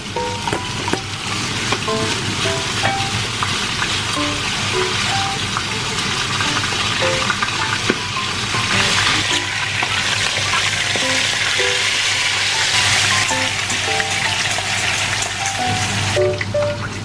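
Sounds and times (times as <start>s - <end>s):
light background music: 0.0s - 9.8s, 10.9s - 17.0s
oil sizzling in a frying pan: 0.0s - 16.9s.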